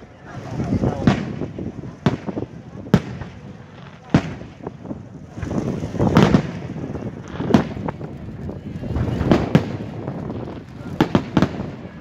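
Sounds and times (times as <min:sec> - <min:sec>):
rumbling crackle: 0:00.0 - 0:12.0
firework bangs: 0:00.3 - 0:12.0.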